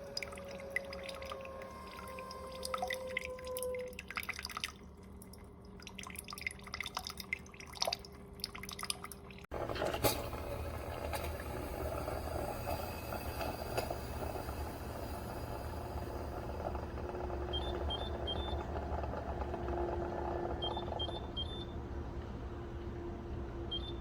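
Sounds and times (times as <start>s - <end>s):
coffee maker dripping and spitting water: 0.0s - 21.8s.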